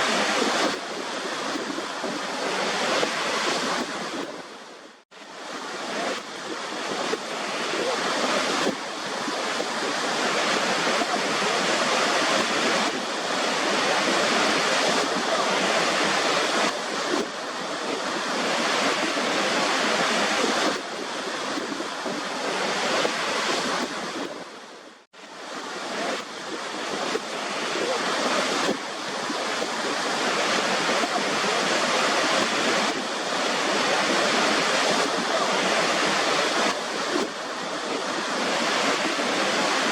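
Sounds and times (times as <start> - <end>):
waterfall rushing: 0.0 - 4.6, 5.2 - 24.7, 25.4 - 39.9.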